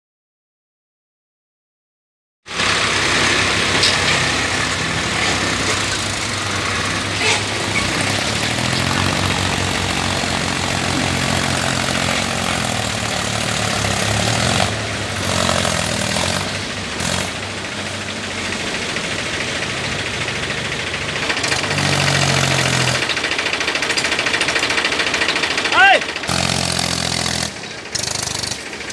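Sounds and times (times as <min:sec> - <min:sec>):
tractor diesel engine under load: 0:02.5 - 0:28.9.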